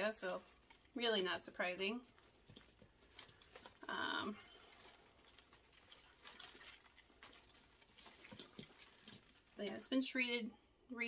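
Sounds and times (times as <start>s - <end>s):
soil and roots rustling: 0.0s - 10.5s.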